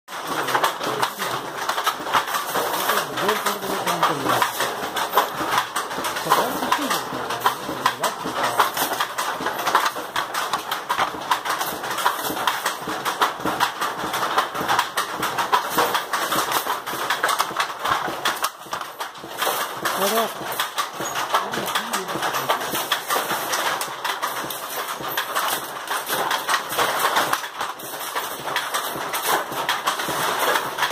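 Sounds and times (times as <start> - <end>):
wooden handloom clacking: 0.1 - 30.9.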